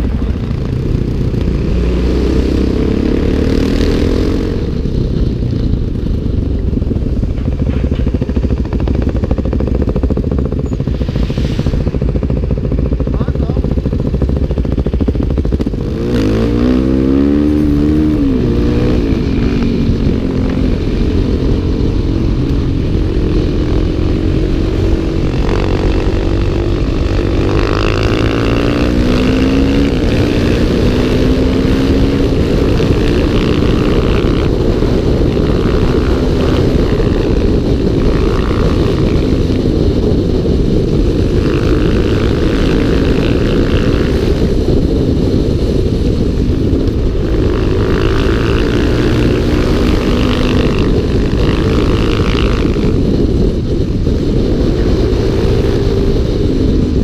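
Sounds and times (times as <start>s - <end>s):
dirt bike engine running hard: 0.0s - 57.0s.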